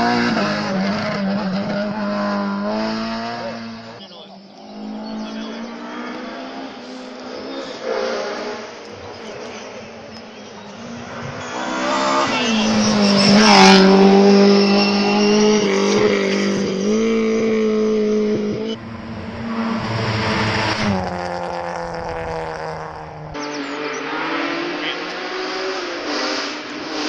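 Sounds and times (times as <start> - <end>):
rally car engines revving high: 0.0 - 27.0.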